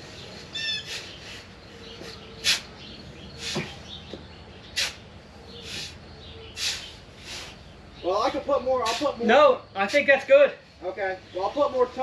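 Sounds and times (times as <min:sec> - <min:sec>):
small bird chirping: 0:00.0 - 0:10.1.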